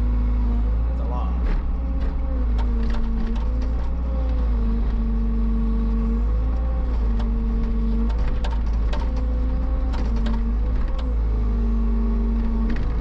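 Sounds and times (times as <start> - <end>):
heavy equipment engine running: 0.0 - 13.0.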